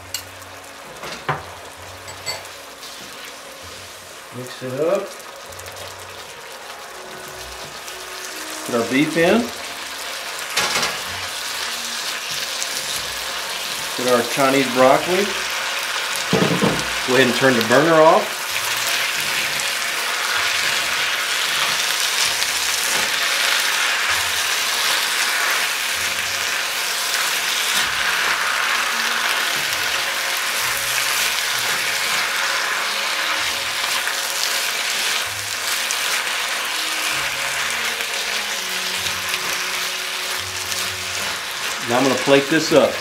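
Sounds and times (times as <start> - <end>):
food sizzling in a wok: 0.0 - 43.0.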